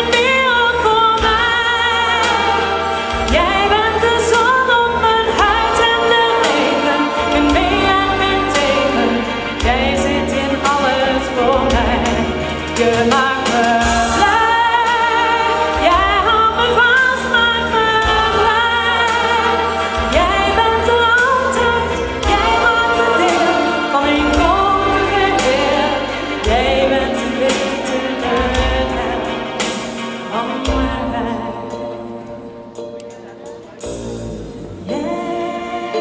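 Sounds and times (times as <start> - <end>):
woman singing into microphone: 0.0 - 29.5, 30.2 - 32.2, 34.7 - 36.0
instrumental backing music: 0.0 - 36.0.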